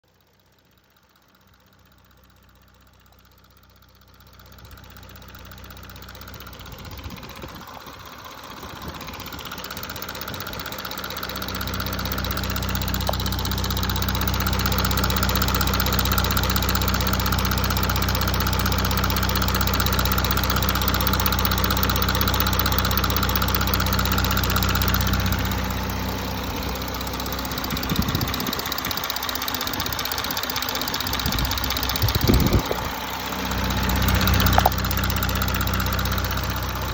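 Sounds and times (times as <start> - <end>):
engine ticking: 0.1 - 36.9
diesel engine idling: 0.2 - 36.9.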